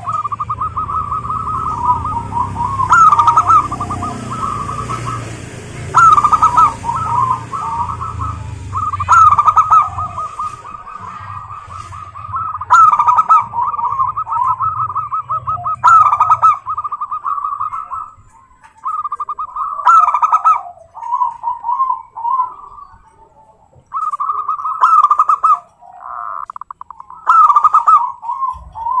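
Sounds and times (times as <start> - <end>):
doves cooing: 0.0 - 29.0.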